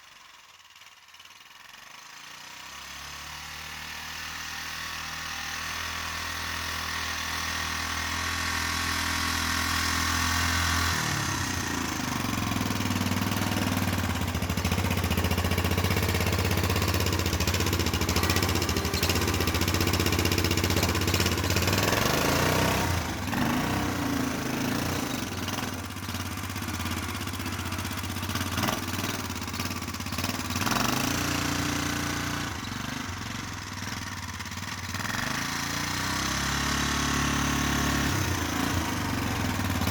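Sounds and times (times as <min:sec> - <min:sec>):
atv engine revving: 0:00.8 - 0:39.9.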